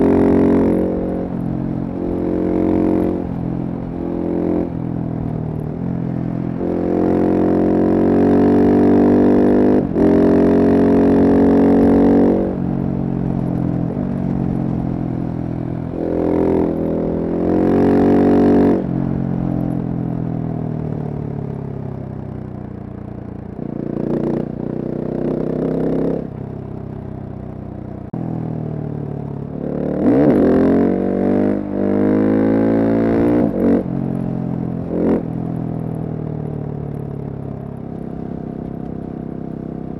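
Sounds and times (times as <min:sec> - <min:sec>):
motorcycle engine revving: 0:00.0 - 0:20.3, 0:22.6 - 0:39.9.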